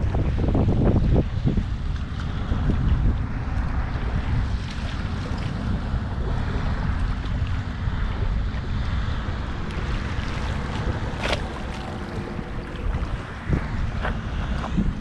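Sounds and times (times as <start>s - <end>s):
surf washing: 0.0s - 15.0s
wind on microphone: 0.0s - 15.0s.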